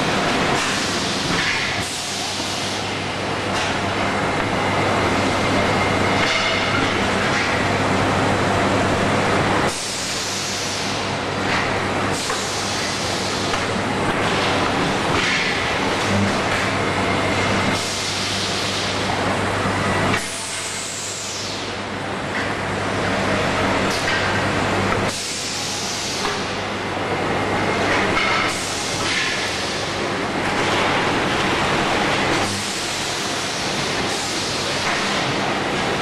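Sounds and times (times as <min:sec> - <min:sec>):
roll-forming machine running: 0:00.0 - 0:36.0.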